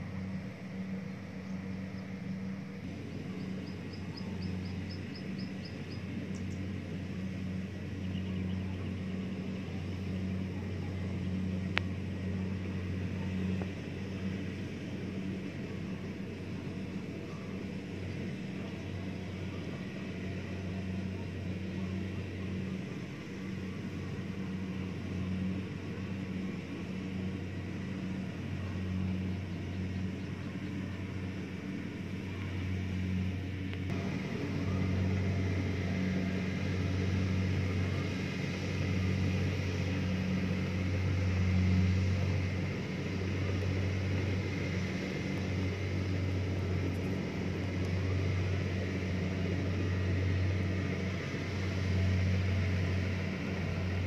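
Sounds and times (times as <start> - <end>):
combine harvester engine humming: 0.0 - 54.0.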